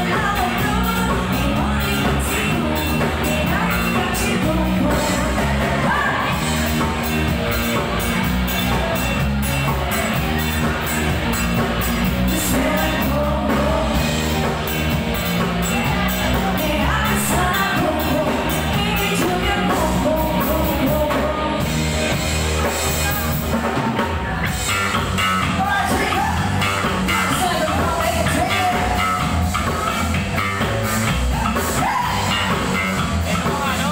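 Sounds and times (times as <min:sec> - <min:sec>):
person singing: 0:00.0 - 0:30.1, 0:31.3 - 0:33.9
live rock band playing: 0:00.0 - 0:33.9.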